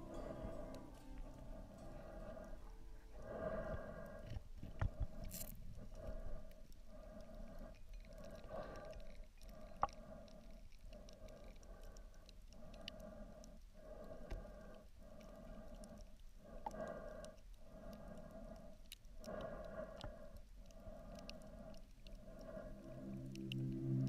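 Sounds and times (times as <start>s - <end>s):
faint clicks and crackles: 0.0s - 24.0s.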